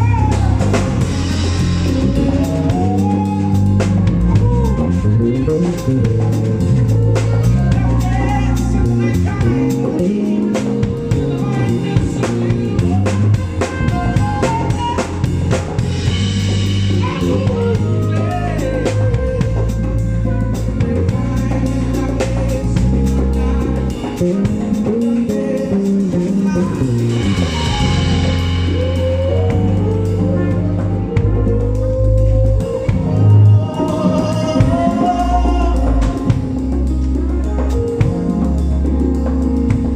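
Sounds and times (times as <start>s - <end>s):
bass guitar low notes: 0.0s - 39.9s
drum kit with rimshots: 0.0s - 39.9s
guitar: 0.0s - 39.9s.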